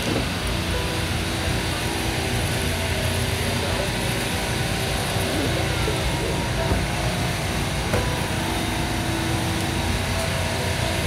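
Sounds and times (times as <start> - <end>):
store background rumble and hiss: 0.0 - 11.0.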